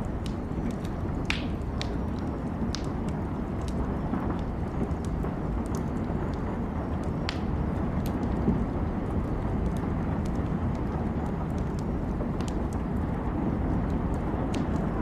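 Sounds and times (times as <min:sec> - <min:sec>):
rain and storm rumble: 0:00.0 - 0:15.0
wood fire crackling: 0:00.0 - 0:15.0.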